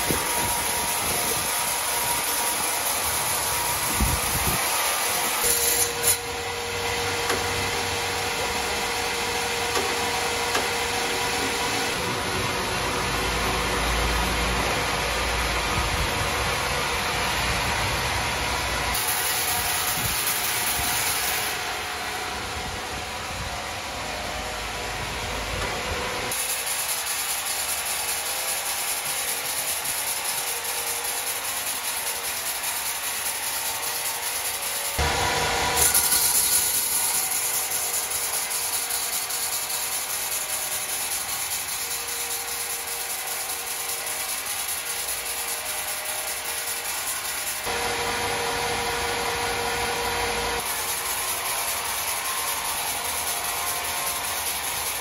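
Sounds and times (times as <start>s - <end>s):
saw cutting through wood: 0.0s - 15.5s, 18.9s - 55.0s.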